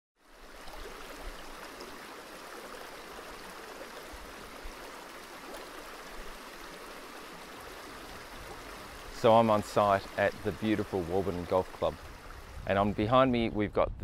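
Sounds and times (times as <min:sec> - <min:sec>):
creek water rushing over rocks: 0:00.2 - 0:13.0.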